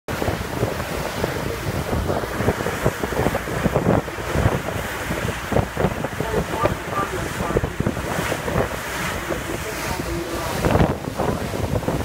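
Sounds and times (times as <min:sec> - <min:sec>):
choppy water washing: 0:00.1 - 0:12.0
wind buffeting microphone: 0:00.1 - 0:12.0.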